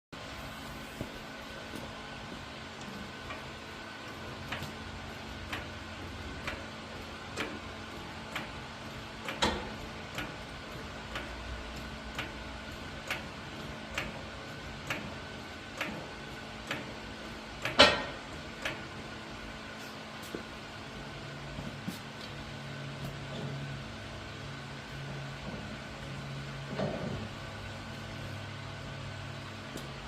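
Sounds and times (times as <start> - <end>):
steady low hum: 0.2 - 30.0.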